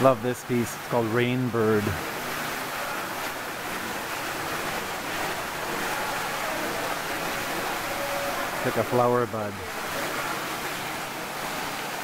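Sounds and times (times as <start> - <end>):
waterfall splashing: 0.0 - 12.0.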